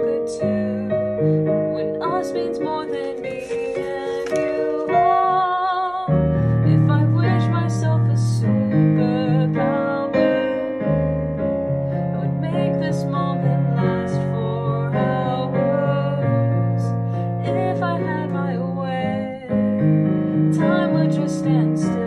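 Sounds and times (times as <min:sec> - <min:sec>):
electronic keyboard piano chords: 0:00.0 - 0:22.0.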